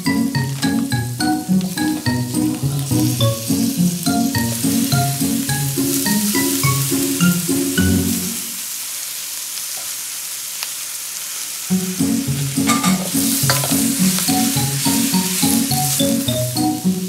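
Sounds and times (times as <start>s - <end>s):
background music: 0.0s - 8.5s, 11.7s - 17.0s
vegetables sizzling in a pan: 0.0s - 17.0s.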